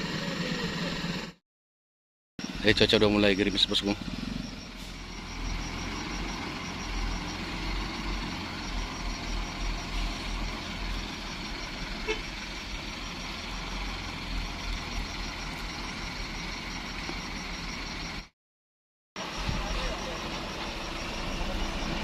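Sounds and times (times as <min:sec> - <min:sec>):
diesel truck engine rumbling: 0:02.4 - 0:18.3, 0:19.2 - 0:22.0.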